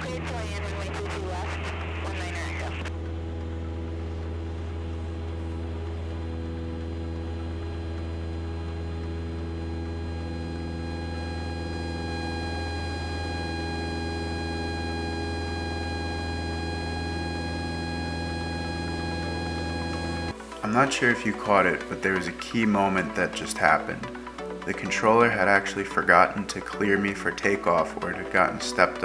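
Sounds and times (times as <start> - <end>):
propeller plane engine droning: 1.9 - 29.0.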